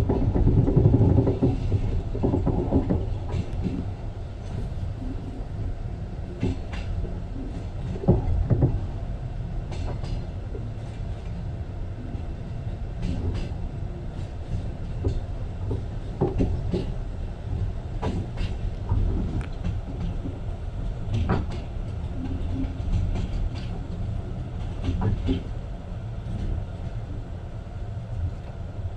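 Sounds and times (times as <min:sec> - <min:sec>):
clicks and knocks of train: 0:00.0 - 0:28.9
train wheels rumbling on rail: 0:00.0 - 0:28.9.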